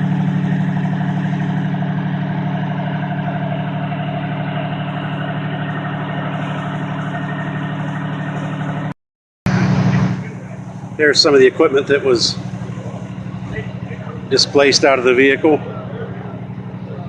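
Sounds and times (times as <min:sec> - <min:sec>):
heavy engine idling: 0:00.0 - 0:17.0.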